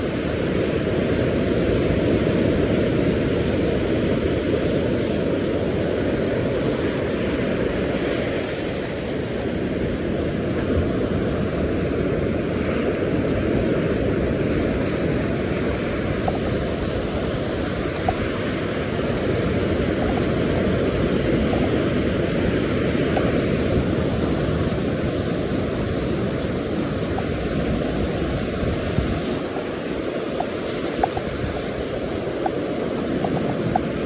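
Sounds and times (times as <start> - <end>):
surf washing on beach: 0.0 - 34.0
wind buffeting microphone: 0.0 - 34.0.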